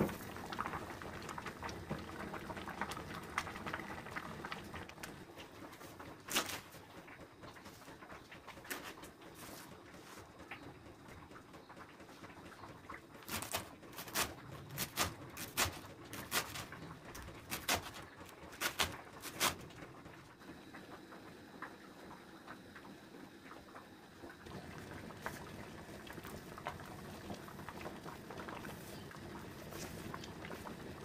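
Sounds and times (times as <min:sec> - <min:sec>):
water bubbling in a pot: 0:00.0 - 0:31.0.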